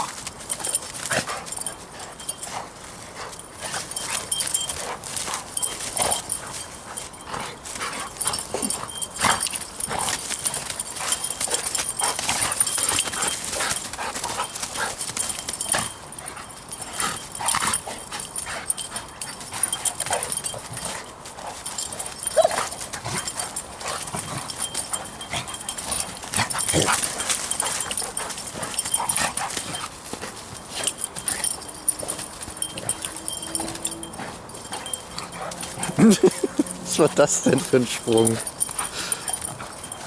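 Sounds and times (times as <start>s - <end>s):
dogs growling and snarling: 0.0s - 40.0s
dogs scuffling in dry leaves: 0.0s - 40.0s.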